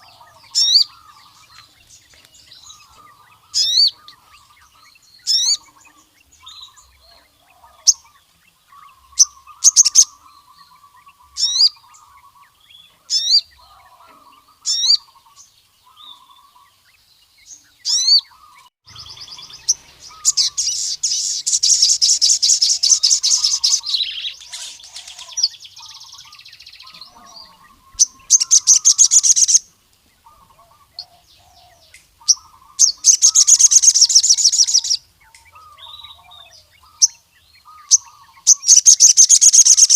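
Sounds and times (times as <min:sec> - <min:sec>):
lower chattering bird notes: 0:00.0 - 0:39.9
sunbird singing: 0:00.0 - 0:39.9.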